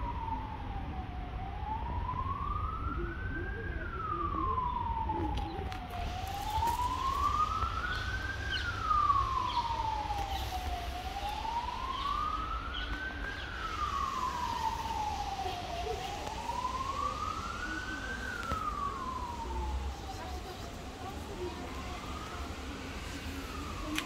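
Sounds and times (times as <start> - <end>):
steady low rumble: 0.0 - 24.0
wailing siren: 0.0 - 24.0.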